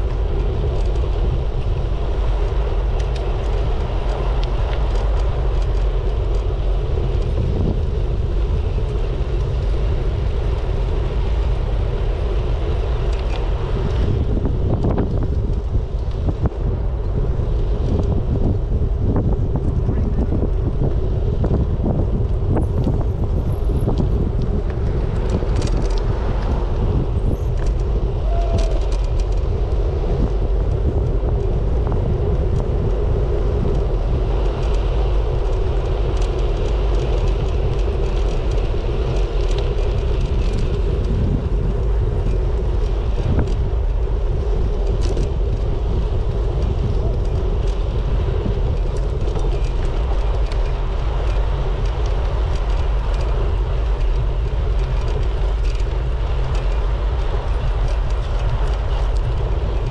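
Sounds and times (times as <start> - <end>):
bicycle rumble over road: 0.0 - 59.9
wind buffeting microphone: 0.0 - 59.9.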